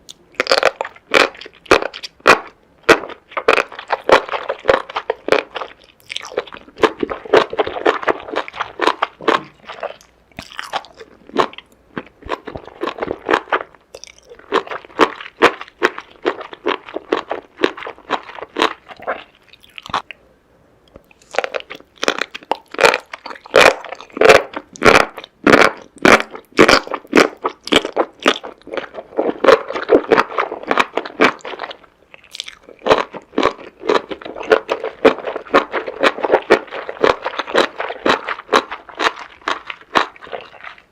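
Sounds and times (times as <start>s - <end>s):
crunching and chewing food: 0.0s - 20.2s, 20.9s - 40.9s.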